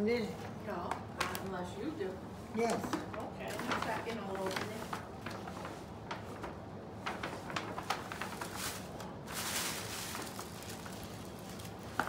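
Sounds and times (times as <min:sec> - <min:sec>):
paper bag and tissue rustling: 0:01.2 - 0:12.0.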